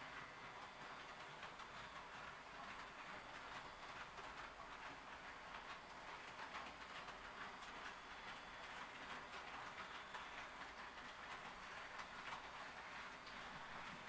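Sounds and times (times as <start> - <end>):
model train running: 0.0 - 14.0.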